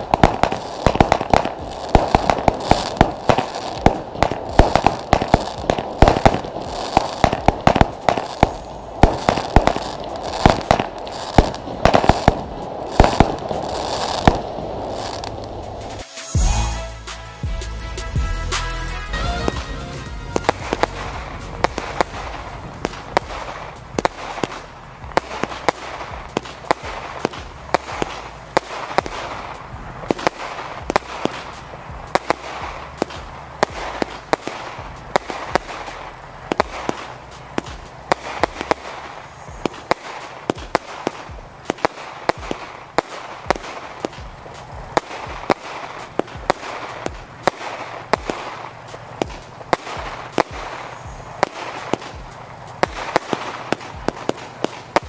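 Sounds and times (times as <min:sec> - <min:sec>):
fireworks bangs: 0:00.0 - 0:16.9, 0:18.1 - 0:55.0
steady hiss: 0:00.0 - 0:55.0.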